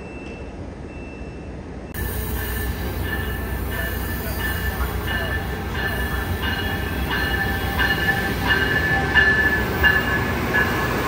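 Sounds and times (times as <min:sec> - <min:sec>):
train wheels squealing: 0:00.0 - 0:11.0
train rumble: 0:01.5 - 0:11.0.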